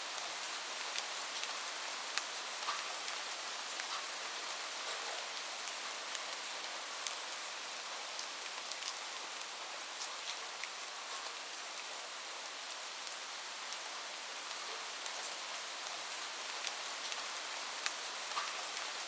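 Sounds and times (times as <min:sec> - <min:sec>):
rain falling on a roof: 0:00.0 - 0:19.0.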